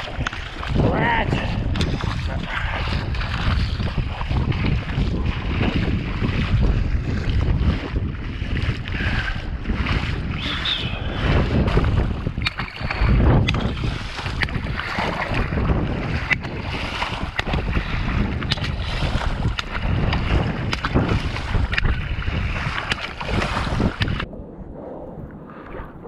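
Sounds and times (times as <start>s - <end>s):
shallow water splashing: 0.0s - 26.0s
wind rumble on microphone: 0.0s - 26.0s.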